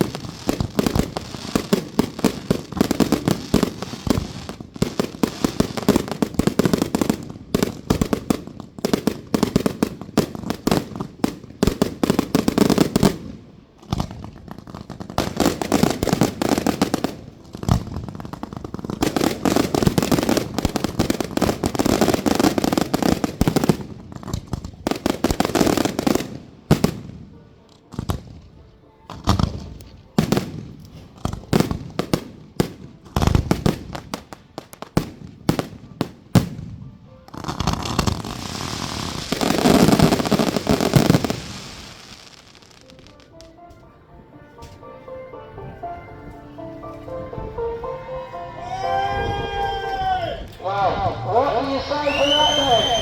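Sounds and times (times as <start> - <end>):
fireworks bangs and crackling: 0.0 - 43.6, 50.5 - 53.0.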